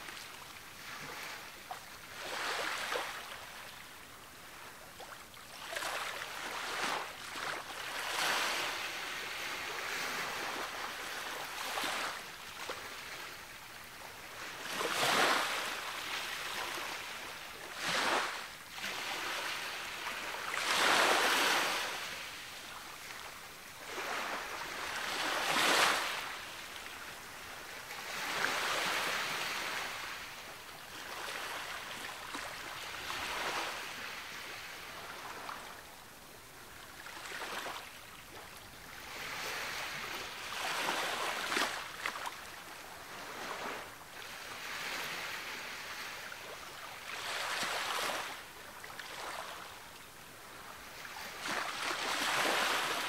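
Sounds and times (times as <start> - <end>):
ocean waves breaking on beach: 0.0 - 4.8, 5.5 - 35.9, 36.9 - 49.8, 50.4 - 53.0.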